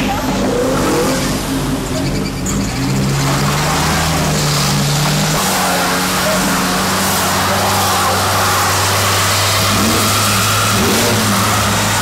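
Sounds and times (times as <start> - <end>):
engine revving hard: 0.0 - 12.0
tyres spinning on pavement: 0.0 - 12.0.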